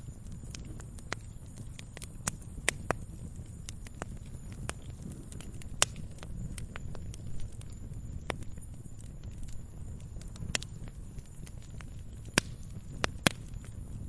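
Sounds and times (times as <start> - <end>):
burning wood popping and snapping: 0.0 - 14.0
low rumble of flames: 0.0 - 14.0.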